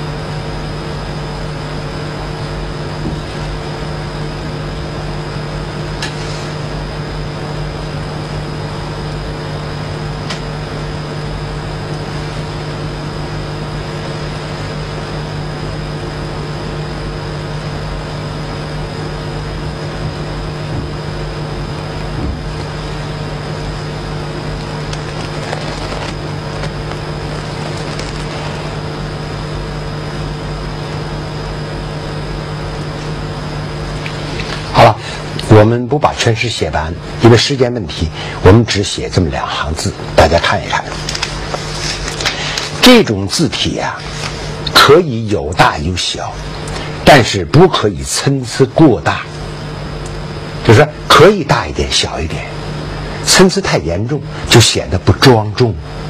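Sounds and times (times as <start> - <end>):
electrical hum and hiss: 0.0 - 56.0.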